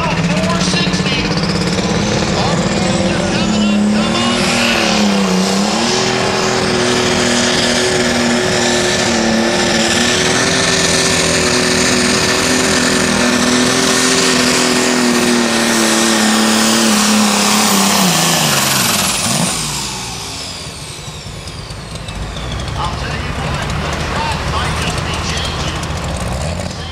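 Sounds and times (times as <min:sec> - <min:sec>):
high whine: 0:00.0 - 0:26.9
tractor engine running flat out: 0:00.0 - 0:26.9.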